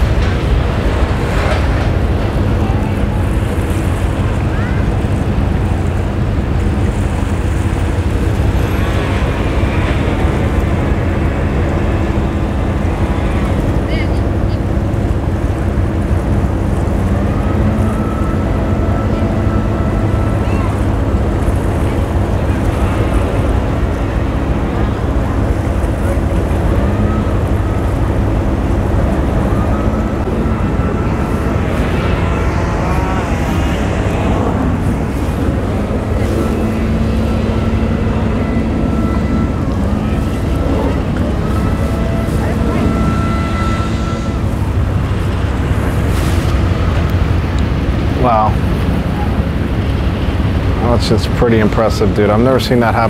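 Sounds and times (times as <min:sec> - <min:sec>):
boat engines droning: 0:00.0 - 0:53.0
water noise: 0:00.0 - 0:53.0
wind rumbling on microphone: 0:00.0 - 0:53.0.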